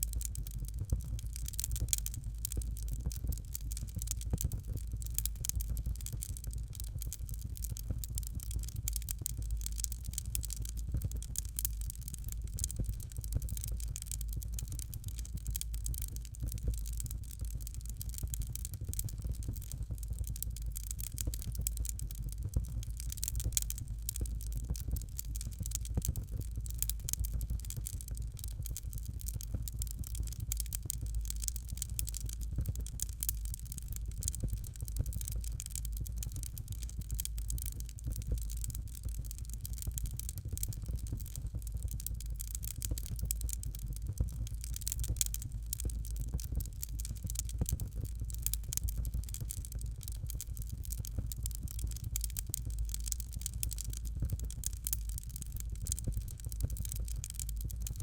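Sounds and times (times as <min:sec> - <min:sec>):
fire crackling: 0:00.0 - 0:58.0
low steady rumble: 0:00.0 - 0:58.0.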